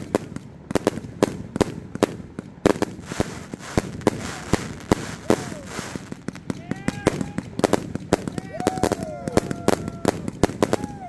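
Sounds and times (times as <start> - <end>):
crackling hiss: 0.0 - 11.0
firework cake firing: 0.0 - 11.0.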